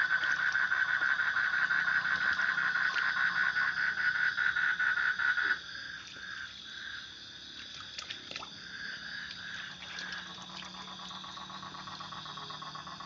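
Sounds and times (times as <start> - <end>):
frogs calling: 0.0 - 13.0
high-pitched frog chorus: 0.0 - 13.0.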